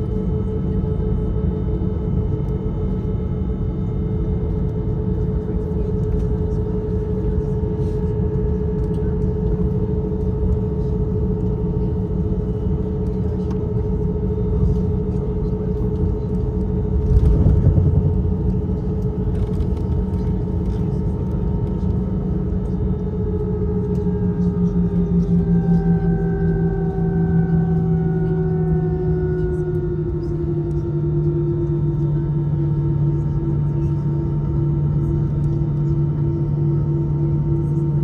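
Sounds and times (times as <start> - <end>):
airplane cabin engine hum: 0.0 - 38.0.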